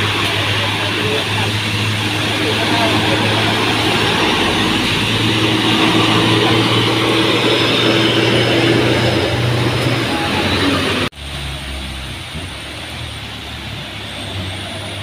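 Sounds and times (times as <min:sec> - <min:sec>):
diesel trucks driving past: 0:00.0 - 0:15.0
tyres hissing on wet road: 0:00.0 - 0:15.0.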